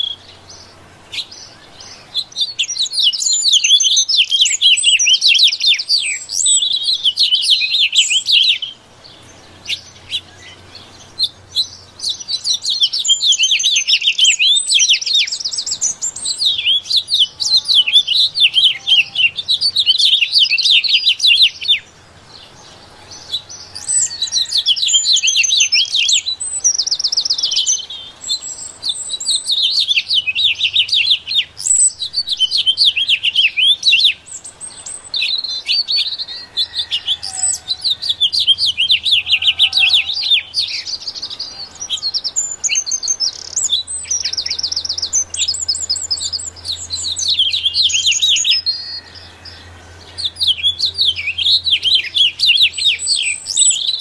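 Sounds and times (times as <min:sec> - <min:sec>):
birds twittering and trilling: 0:00.0 - 0:54.0.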